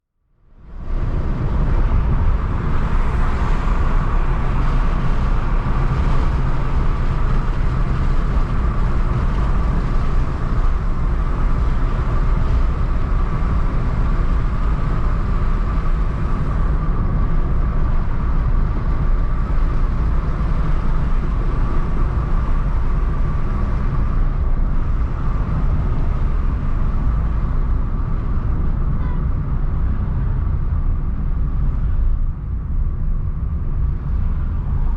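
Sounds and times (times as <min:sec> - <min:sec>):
car engine and tyre rumble: 0:00.2 - 0:34.9.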